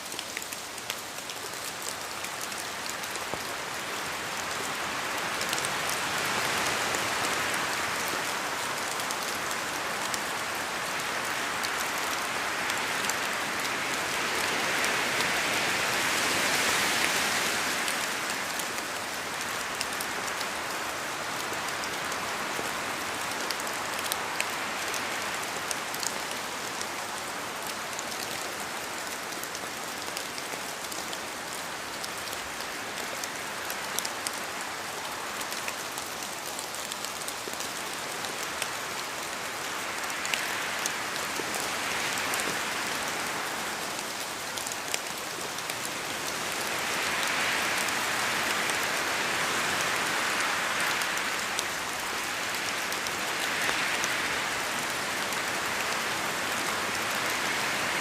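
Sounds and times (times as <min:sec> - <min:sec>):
rain falling in forest: 0:00.0 - 0:58.0
wind in trees: 0:00.0 - 0:58.0.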